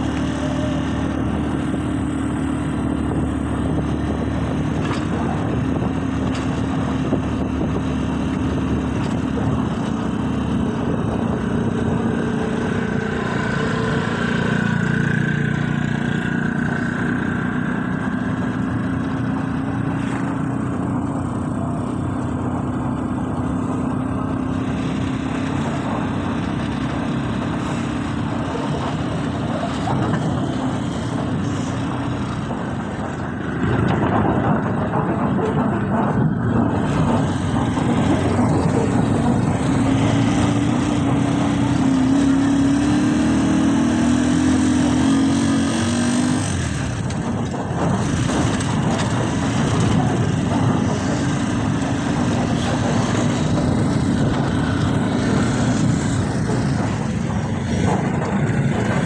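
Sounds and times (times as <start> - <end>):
motorcycle rickshaw engine: 0.0 - 59.0.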